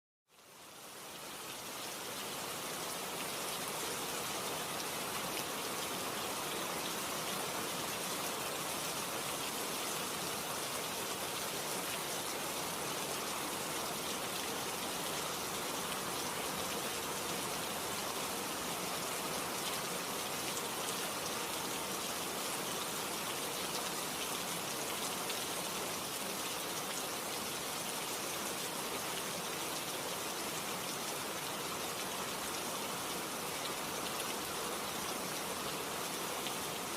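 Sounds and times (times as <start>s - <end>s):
steady rain falling: 0.3s - 36.9s.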